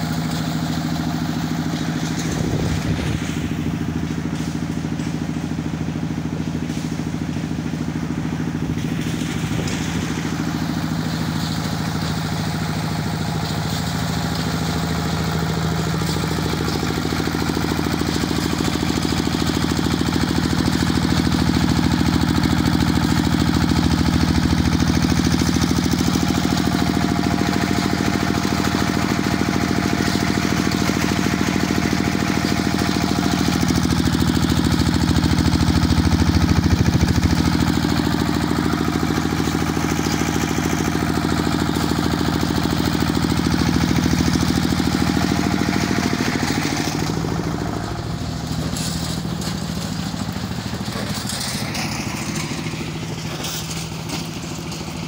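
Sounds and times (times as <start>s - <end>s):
small engine running steadily: 0.0s - 55.0s.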